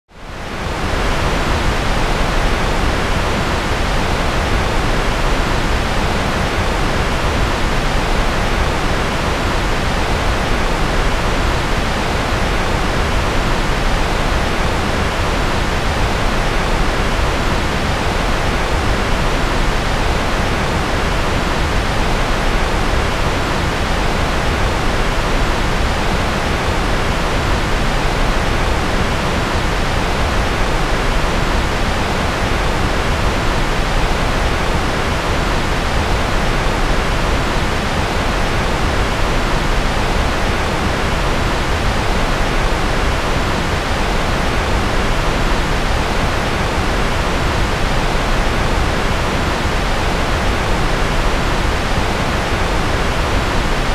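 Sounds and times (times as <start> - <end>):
white noise hiss: 0.2 - 53.9.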